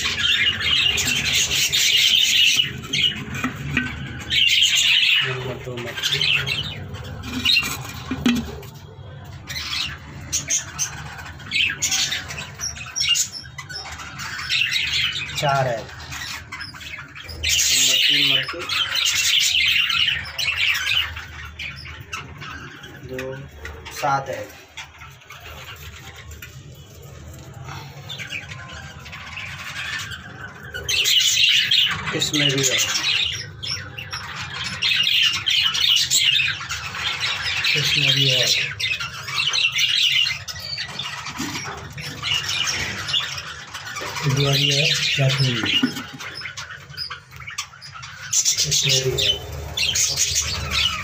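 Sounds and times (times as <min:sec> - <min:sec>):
budgerigars squawking and chattering: 0:00.0 - 0:51.0.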